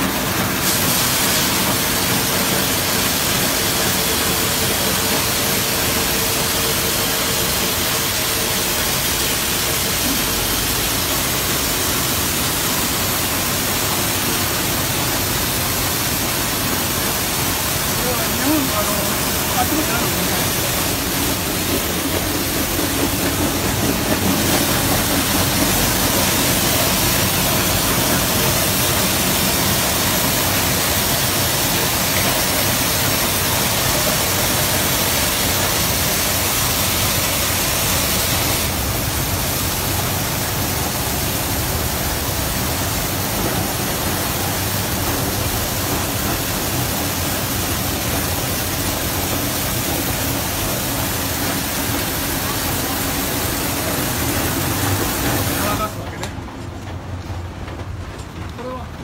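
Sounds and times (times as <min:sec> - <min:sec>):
water spraying hiss: 0:00.0 - 0:56.0.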